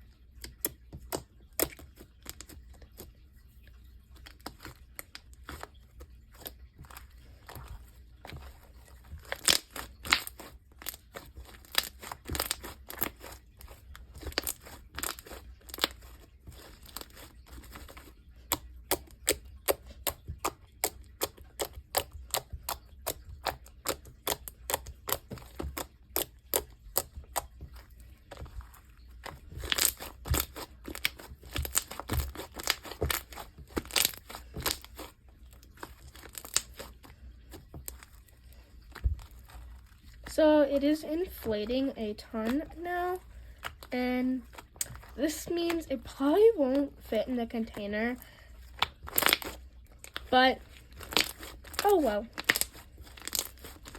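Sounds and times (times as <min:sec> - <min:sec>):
slime popping and crackling: 0:00.3 - 0:03.1, 0:04.2 - 0:53.9.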